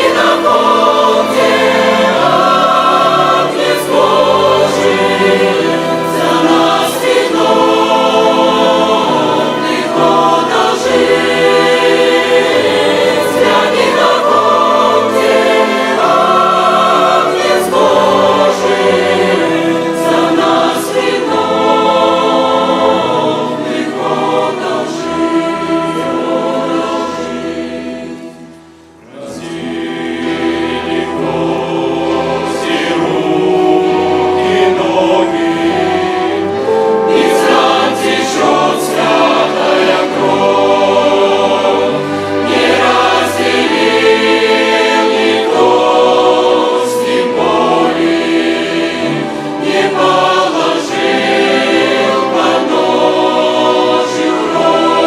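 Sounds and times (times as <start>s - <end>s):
choir singing a hymn: 0.0s - 55.0s
violin orchestra: 0.0s - 55.0s.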